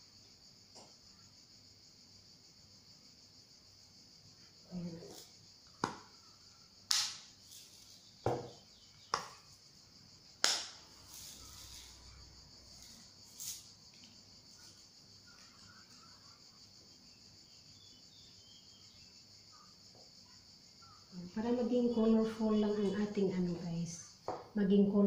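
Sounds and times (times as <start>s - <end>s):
steady high-pitched hiss: 0.0s - 25.0s.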